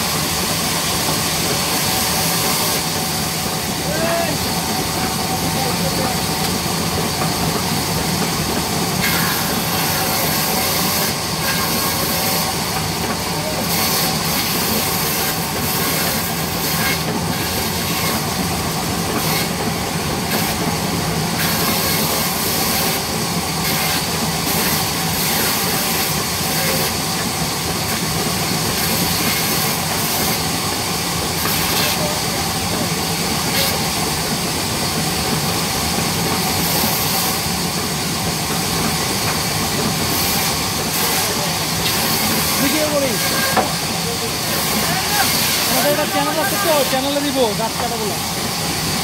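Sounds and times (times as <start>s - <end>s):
band saw cutting wood: 0.0s - 35.5s, 36.2s - 37.5s, 38.5s - 49.0s.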